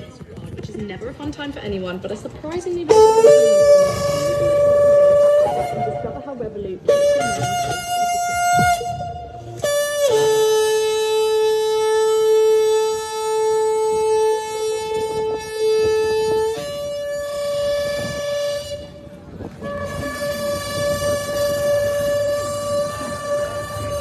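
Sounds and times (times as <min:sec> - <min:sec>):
shofar blasts: 0:02.9 - 0:24.0.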